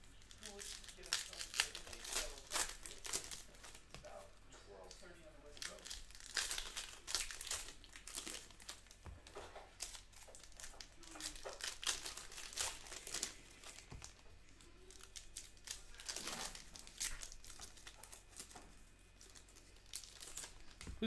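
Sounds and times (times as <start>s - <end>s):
plastic wrappers crinkling: 0.0s - 21.0s.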